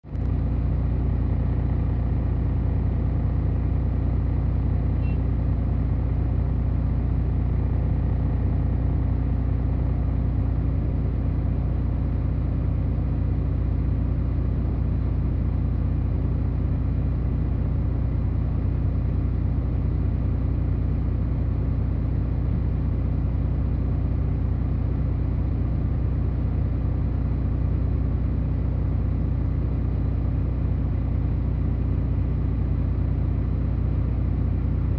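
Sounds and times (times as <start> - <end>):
heavy diesel engine running: 0.1 - 34.9.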